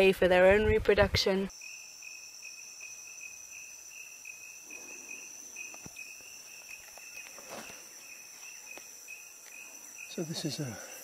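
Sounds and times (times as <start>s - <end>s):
insect chirping pulses: 0.0s - 11.0s
insect steady high shrill: 1.5s - 11.0s
rustle: 1.6s - 11.0s.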